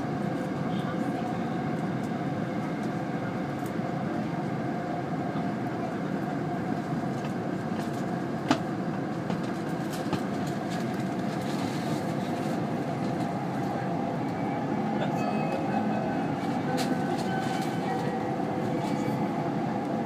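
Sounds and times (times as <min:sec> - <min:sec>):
train cabin running hum: 0:00.0 - 0:20.0.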